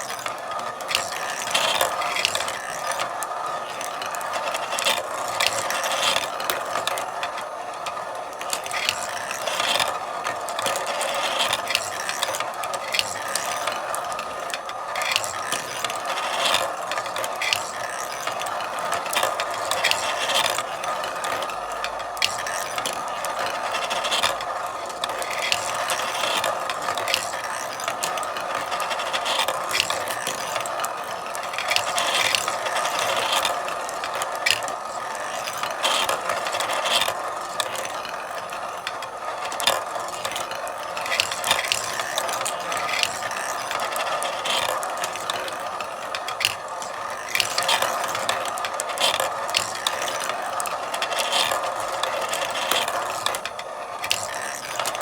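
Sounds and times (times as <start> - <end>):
marbles clicking and clacking: 0.0 - 55.0
marbles rolling rattle: 0.0 - 55.0.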